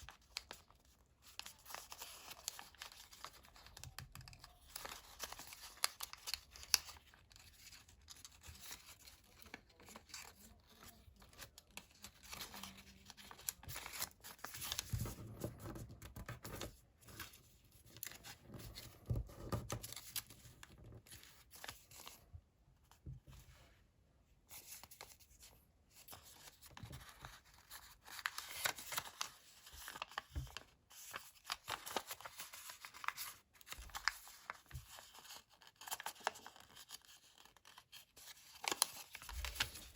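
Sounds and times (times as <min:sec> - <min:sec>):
paper rustling and crinkling: 0:00.0 - 0:22.2, 0:24.5 - 0:39.9.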